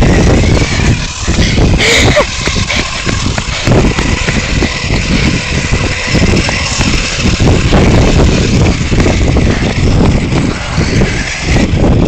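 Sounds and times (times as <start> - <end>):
electric motor whine: 0.0 - 12.0
tyre noise on asphalt: 0.0 - 12.0
uneven rumble on microphone: 0.0 - 12.0.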